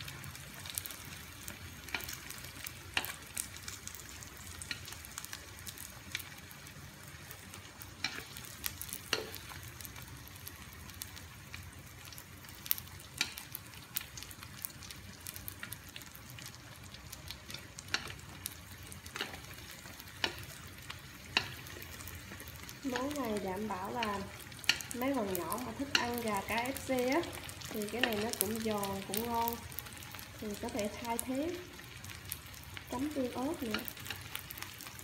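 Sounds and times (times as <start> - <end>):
frying hiss in hot oil: 0.0 - 35.0
oil crackles and pops: 0.0 - 35.0.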